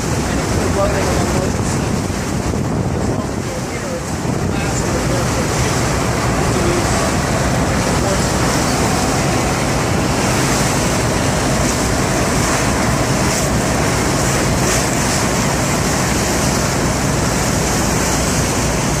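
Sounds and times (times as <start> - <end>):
churned water hissing: 0.0 - 19.0
tugboat engines rumbling: 0.0 - 19.0.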